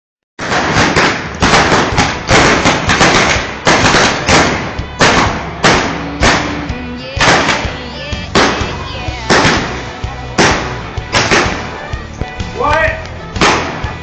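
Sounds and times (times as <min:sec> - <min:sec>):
blank gunshots with echo: 0:00.4 - 0:11.8, 0:13.4 - 0:14.0.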